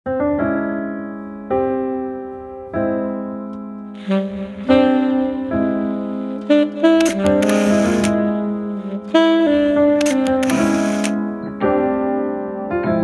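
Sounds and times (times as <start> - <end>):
slow piano chords: 0.1 - 13.0.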